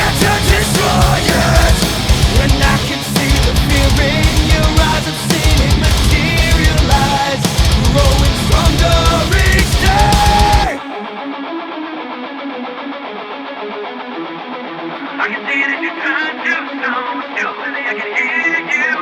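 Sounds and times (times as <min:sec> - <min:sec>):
loud rock music: 0:00.0 - 0:19.0
strummed electric guitar: 0:00.0 - 0:19.0.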